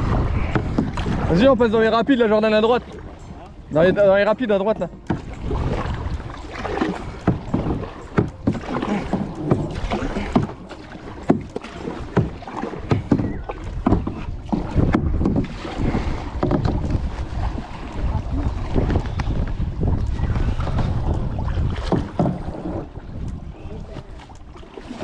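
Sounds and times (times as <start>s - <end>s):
paddle knocks: 0.0s - 23.4s
rushing river water: 0.0s - 25.0s
water splashing around canoe: 0.0s - 25.0s.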